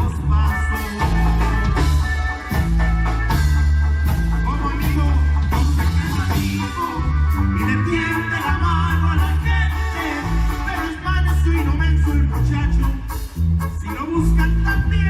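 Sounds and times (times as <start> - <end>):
held bass line: 0.0 - 15.0
higher melody lines: 0.0 - 15.0
live regional band music: 0.0 - 15.0
steady drum beat: 0.0 - 15.0.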